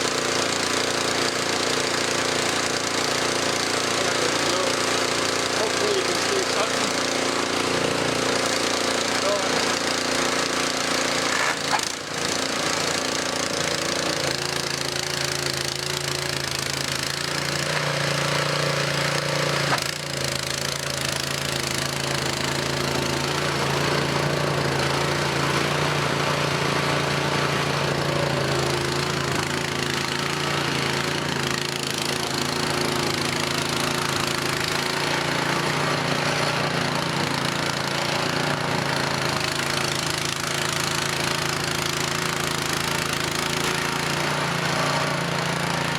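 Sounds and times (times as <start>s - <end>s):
snowblower engine running: 0.0s - 45.9s.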